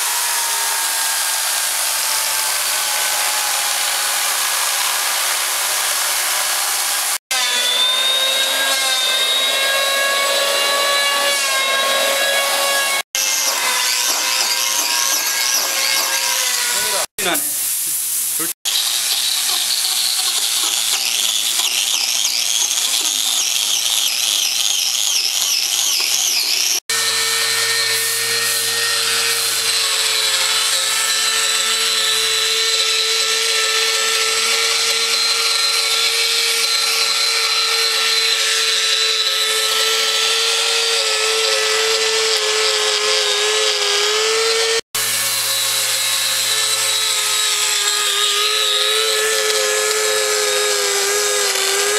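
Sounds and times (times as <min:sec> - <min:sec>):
angle grinder cutting wood: 0:00.0 - 0:17.4, 0:18.4 - 0:51.9.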